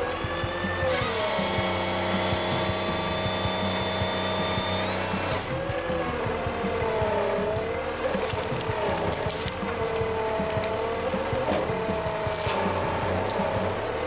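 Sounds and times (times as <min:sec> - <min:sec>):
lower engine sliding in pitch: 0:00.0 - 0:14.0
motor running with high whine: 0:00.0 - 0:14.0.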